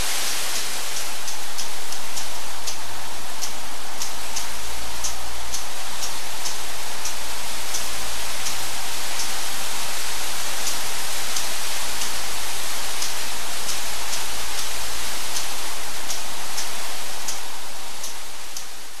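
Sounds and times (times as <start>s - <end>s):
low fan rumble: 0.0s - 19.0s.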